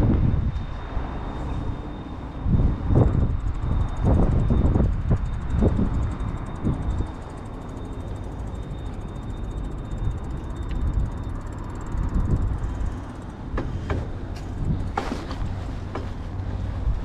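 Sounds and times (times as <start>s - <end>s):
bicycle tyres rumbling: 0.0s - 17.0s
wind buffeting microphone: 0.0s - 17.0s.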